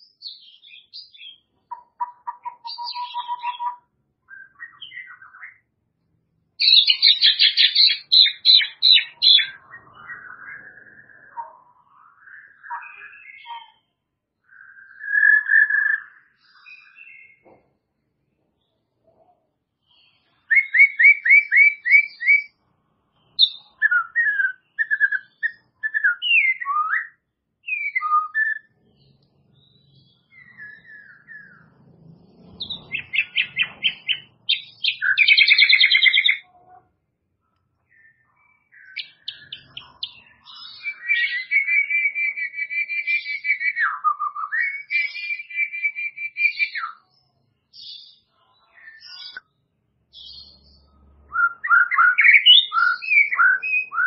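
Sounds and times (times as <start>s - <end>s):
songbird singing whistled phrases: 0.0s - 5.6s, 6.6s - 17.4s, 20.4s - 22.6s, 23.3s - 28.8s, 29.6s - 31.7s, 32.6s - 36.8s, 37.9s - 47.1s, 47.8s - 49.4s, 50.1s - 54.0s.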